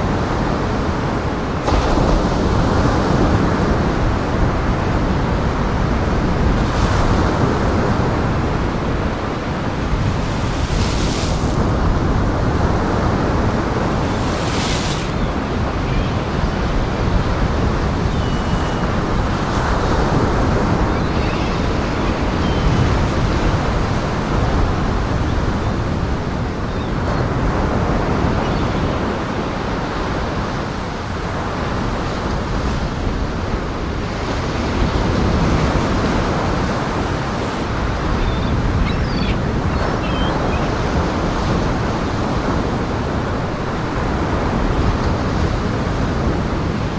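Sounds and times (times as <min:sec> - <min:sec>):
gusting wind: 0:00.0 - 0:46.9
waves breaking on shore: 0:00.0 - 0:46.9.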